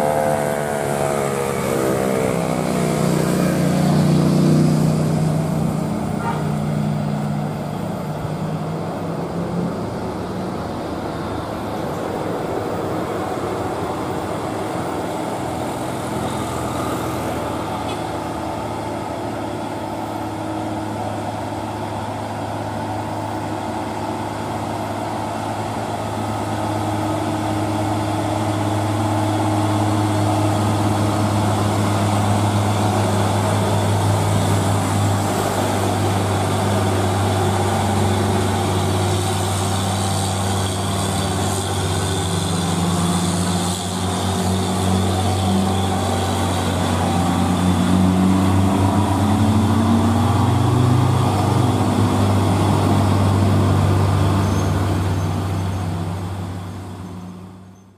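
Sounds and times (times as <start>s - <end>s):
dump truck diesel engine: 0.0s - 57.9s.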